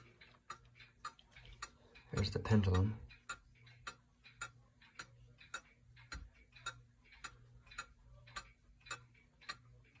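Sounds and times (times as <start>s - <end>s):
clock ticking faintly: 0.0s - 10.0s.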